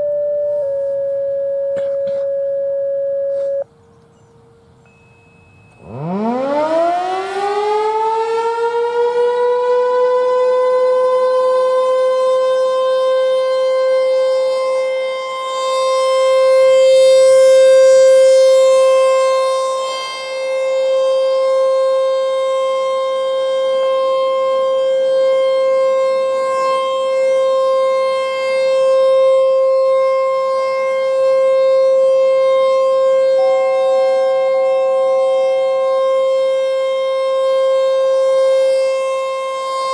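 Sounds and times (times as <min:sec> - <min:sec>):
warning siren winding up: 0:00.0 - 0:03.7, 0:05.6 - 0:39.9.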